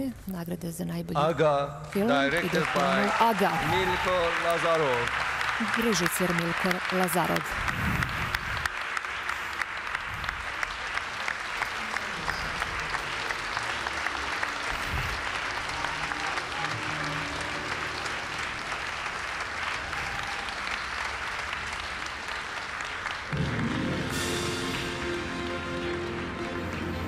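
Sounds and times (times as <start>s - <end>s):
audience applauding: 1.9s - 27.0s.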